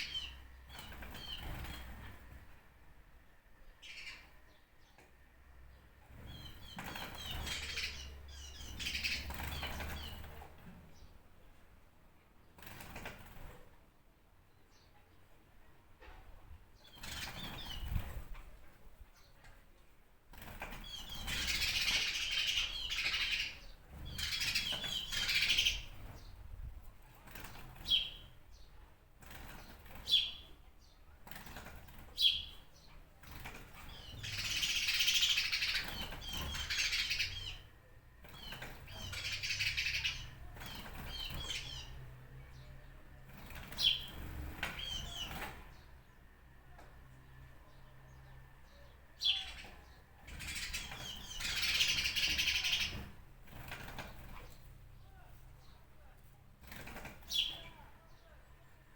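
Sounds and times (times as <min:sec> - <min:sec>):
small birds twittering: 0:00.0 - 0:02.6, 0:03.3 - 0:11.6, 0:16.6 - 0:19.6, 0:20.4 - 0:58.9.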